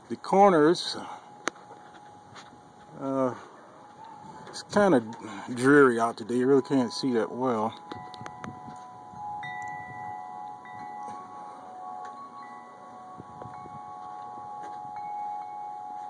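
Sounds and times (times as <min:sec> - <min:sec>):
light wind: 0:00.0 - 0:16.0
wind chimes ringing: 0:00.2 - 0:16.0.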